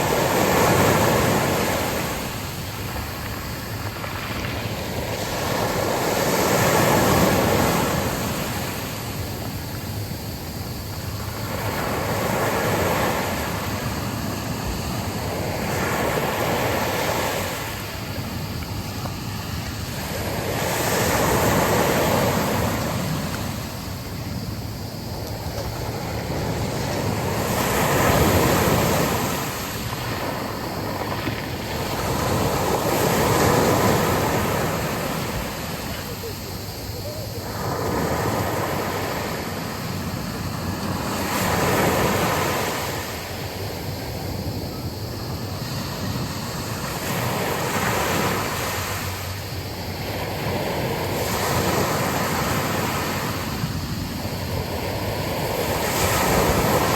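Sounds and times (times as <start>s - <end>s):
waves breaking on a beach: 0.0s - 56.9s.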